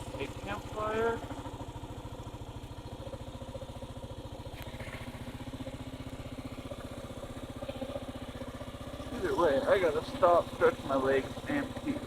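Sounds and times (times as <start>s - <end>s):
motorcycle engine chugging: 0.0s - 12.0s.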